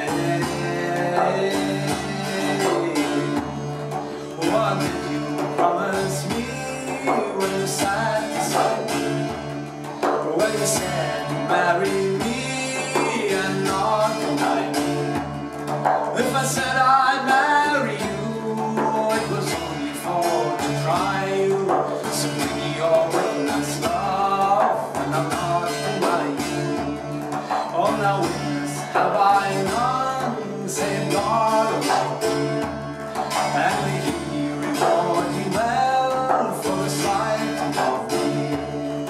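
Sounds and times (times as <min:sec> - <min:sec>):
bouzouki strumming: 0:00.0 - 0:39.0
frame drum hand beats: 0:00.0 - 0:39.0
person singing: 0:00.0 - 0:39.0.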